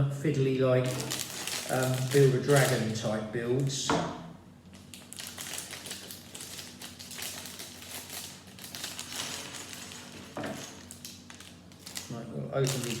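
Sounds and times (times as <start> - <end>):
plastic bags crinkling: 0.8 - 3.2, 4.6 - 13.0.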